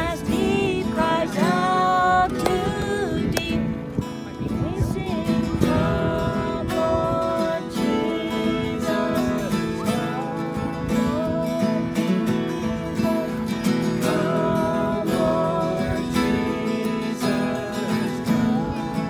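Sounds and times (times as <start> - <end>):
group of voices singing: 0.0 - 3.8, 4.8 - 19.0
acoustic guitars strumming: 0.0 - 19.0.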